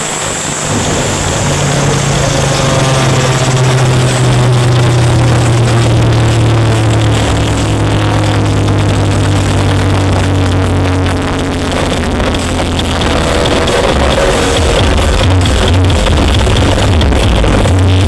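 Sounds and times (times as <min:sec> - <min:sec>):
loud low bass drone: 0:00.0 - 0:18.0.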